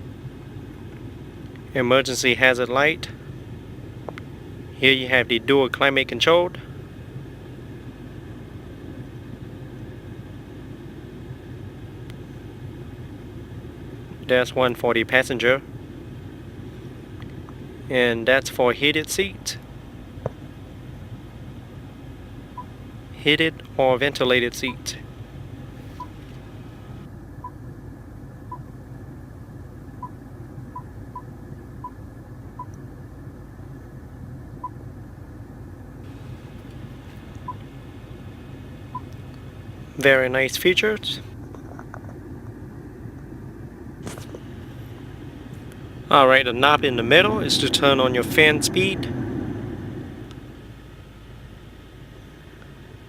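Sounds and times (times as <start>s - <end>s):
car cabin hum: 0.0s - 53.0s.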